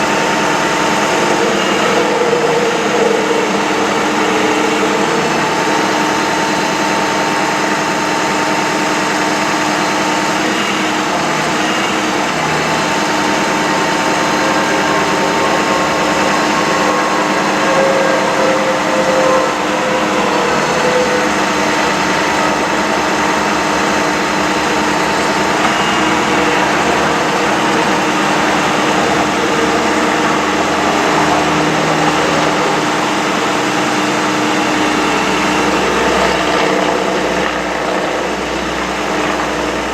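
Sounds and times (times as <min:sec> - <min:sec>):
steady whining tones: 0:00.0 - 0:39.9
truck engine running: 0:00.0 - 0:39.9.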